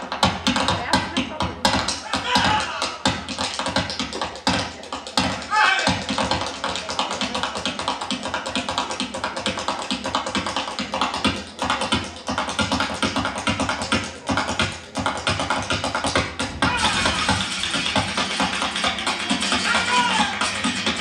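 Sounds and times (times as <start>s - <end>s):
fast percussive taps: 0.0s - 21.0s
flamenco music: 0.0s - 21.0s.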